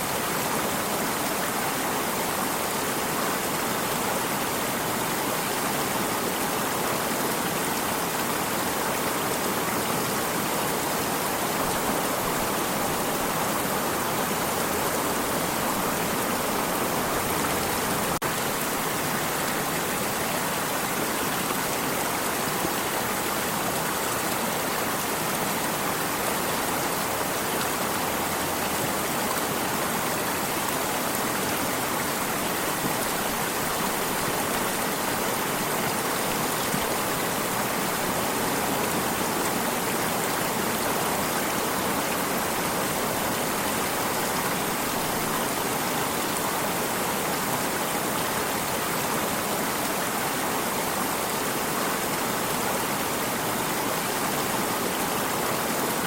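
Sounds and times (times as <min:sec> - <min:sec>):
stream rushing and splashing: 0:00.0 - 0:56.0.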